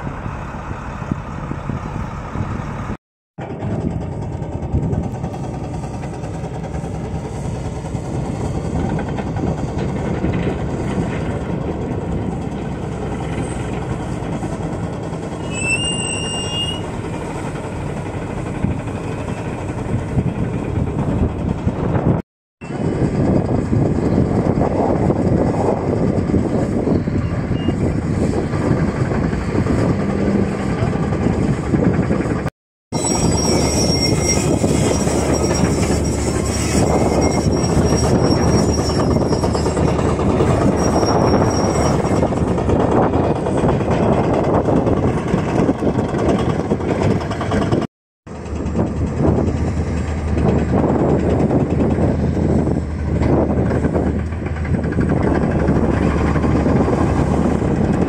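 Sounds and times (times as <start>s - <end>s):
wind on microphone: 0.0s - 16.0s, 16.8s - 32.5s, 33.2s - 58.0s
heavy machine diesel engines: 0.0s - 58.0s.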